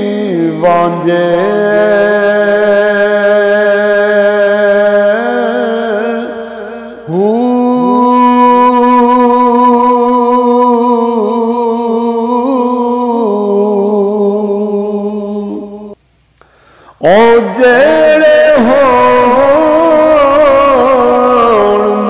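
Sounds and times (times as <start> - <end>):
man singing long held notes: 0.0 - 16.0, 16.9 - 22.0.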